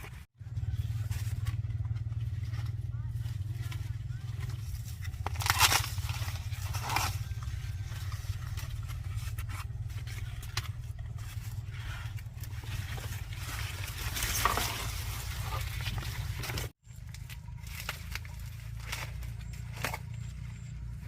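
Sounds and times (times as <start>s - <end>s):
dry corn plants rustling: 0.0s - 21.0s
steady low rumble: 0.0s - 21.0s.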